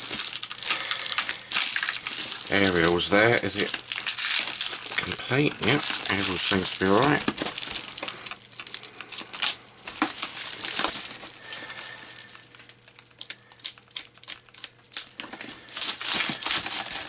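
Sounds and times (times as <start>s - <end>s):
plastic shrink wrap crinkling: 0.0s - 17.0s.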